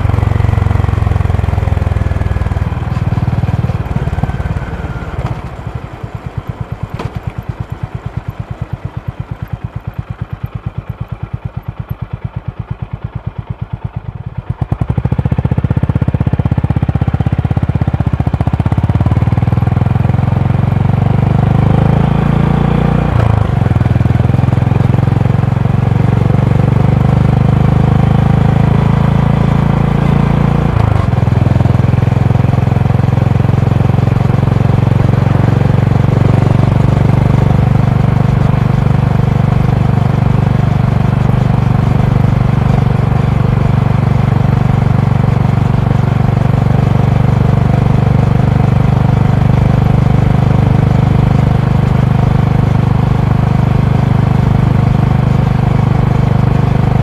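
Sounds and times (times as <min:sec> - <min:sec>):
single-cylinder motorcycle engine: 0:00.0 - 0:57.0.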